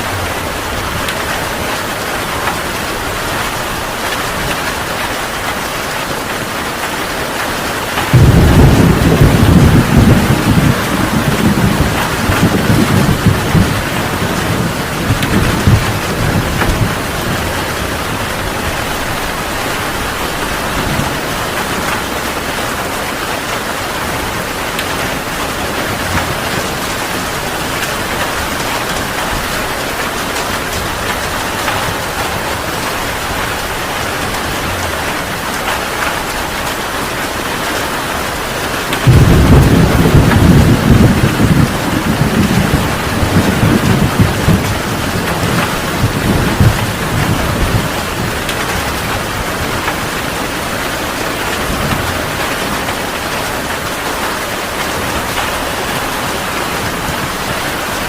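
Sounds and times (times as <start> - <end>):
heavy rain: 0.0 - 58.0
thunder rumbling: 7.8 - 58.0.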